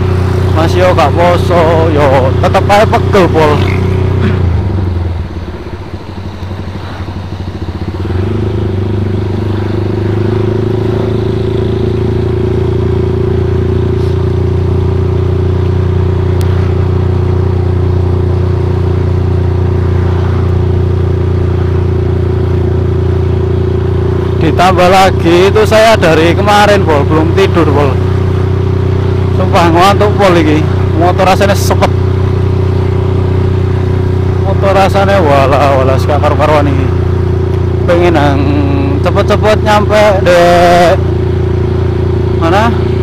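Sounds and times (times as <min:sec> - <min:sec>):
motorcycle engine running: 0:00.0 - 0:43.0
road noise: 0:00.0 - 0:43.0.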